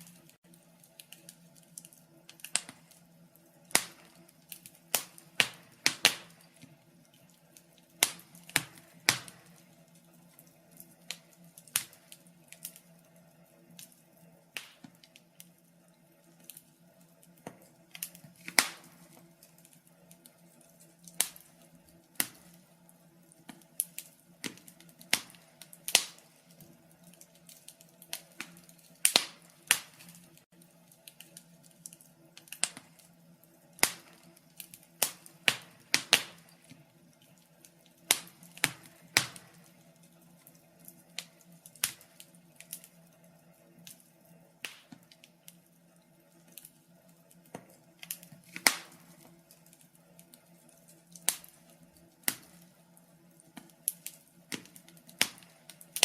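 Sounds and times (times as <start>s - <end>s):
faint steady hum: 0.0s - 56.0s
wood fire crackling and popping: 0.0s - 56.0s.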